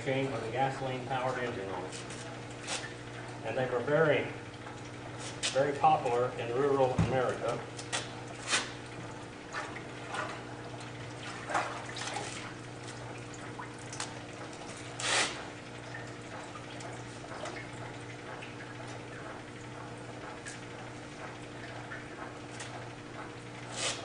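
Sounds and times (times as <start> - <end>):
washing machine motor hum: 0.0 - 24.0
water sloshing and splashing: 0.2 - 24.0.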